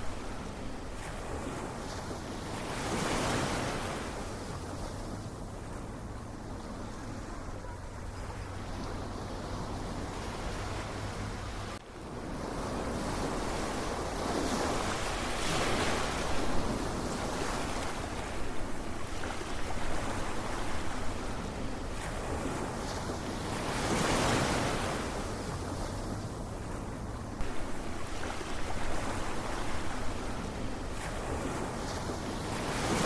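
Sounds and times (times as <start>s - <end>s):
waves washing onto shore: 0.0s - 33.0s.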